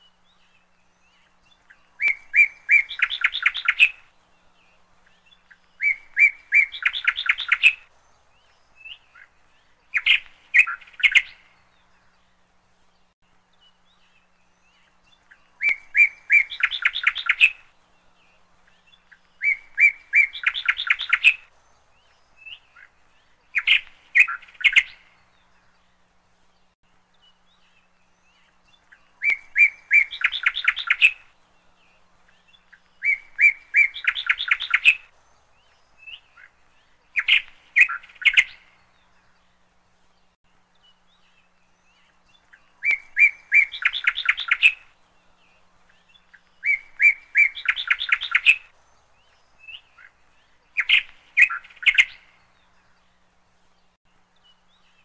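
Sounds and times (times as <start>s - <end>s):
songbird singing with trill: 0.0s - 55.0s.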